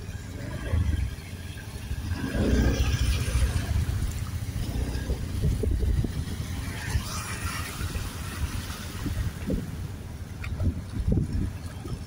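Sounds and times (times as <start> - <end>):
water washing around wheels: 0.0 - 12.0.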